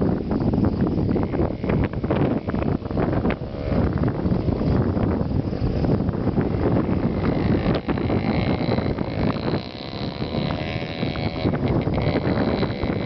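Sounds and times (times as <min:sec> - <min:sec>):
quad bike engine passing: 0:00.0 - 0:13.0
wind buffeting microphone: 0:00.0 - 0:13.0.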